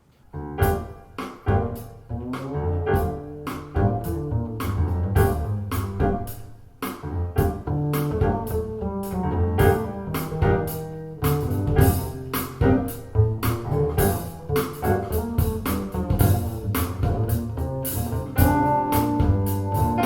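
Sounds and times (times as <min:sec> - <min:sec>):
instrumental music over speakers: 0:00.6 - 0:20.0.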